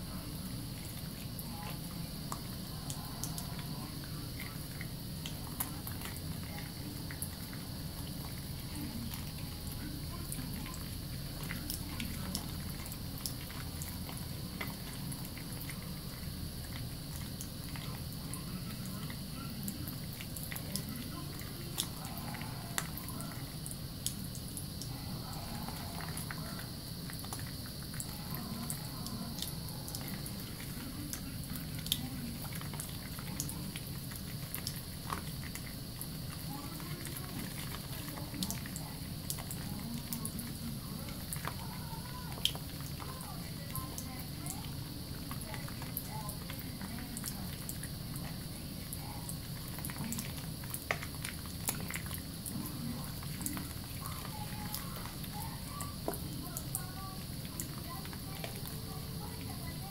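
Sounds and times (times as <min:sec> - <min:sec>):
soapy hands squishing: 0:00.0 - 0:59.9
wet lather squelches: 0:00.0 - 0:59.9.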